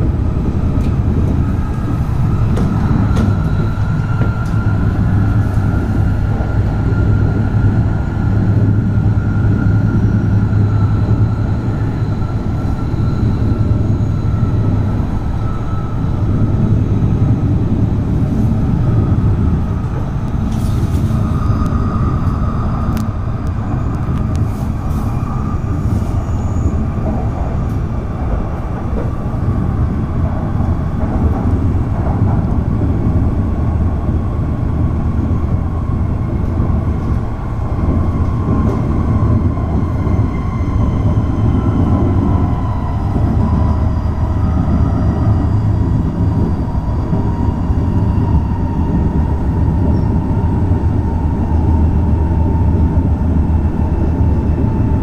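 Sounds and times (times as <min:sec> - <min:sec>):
train rumbling in motion: 0:00.0 - 0:55.0.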